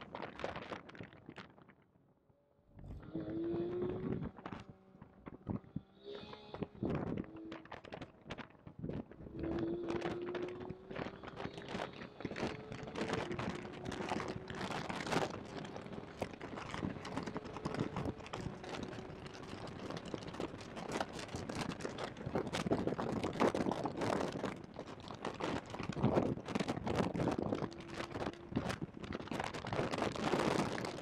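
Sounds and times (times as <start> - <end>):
crackling microphone distortion: 0.0 - 31.0.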